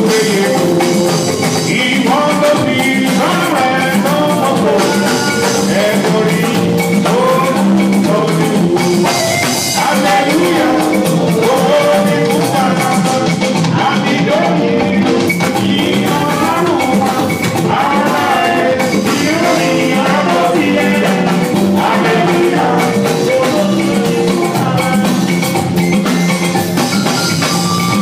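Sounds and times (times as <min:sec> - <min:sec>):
band music with singing: 0:00.0 - 0:28.0
drum kit: 0:00.0 - 0:28.0.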